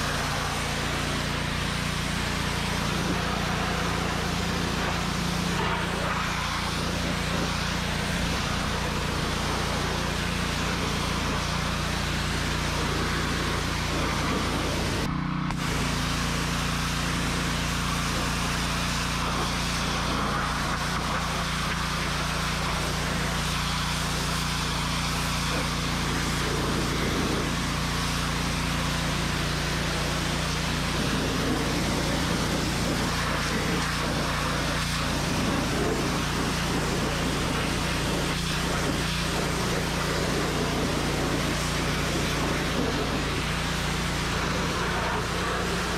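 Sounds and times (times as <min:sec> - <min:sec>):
pressure washer engine droning: 0:00.0 - 0:45.9
water jet hissing: 0:00.0 - 0:45.9.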